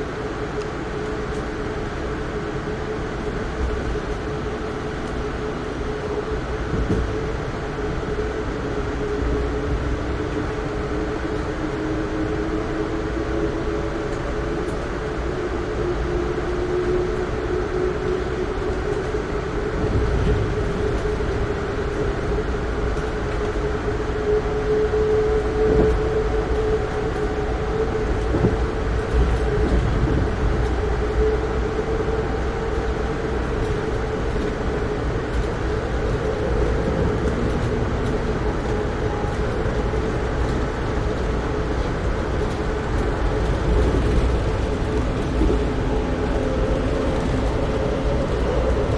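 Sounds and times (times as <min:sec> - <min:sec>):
train wheels rumbling on rails: 0:00.0 - 0:48.9
train whine: 0:00.0 - 0:48.9.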